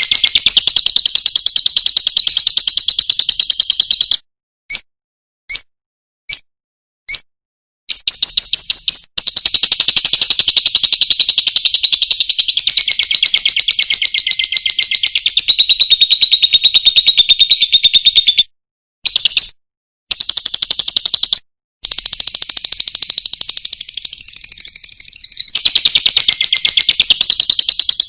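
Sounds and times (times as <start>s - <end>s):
rapid high-pitched animal trill: 0.0s - 4.9s, 7.9s - 18.5s, 19.1s - 28.0s.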